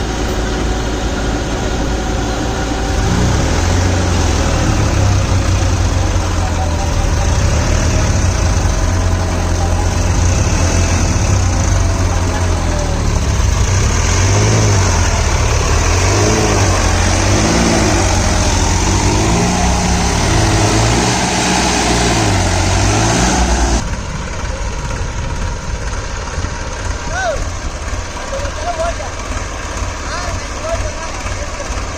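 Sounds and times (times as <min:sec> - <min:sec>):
tractor diesel engines under load: 0:00.0 - 0:31.9.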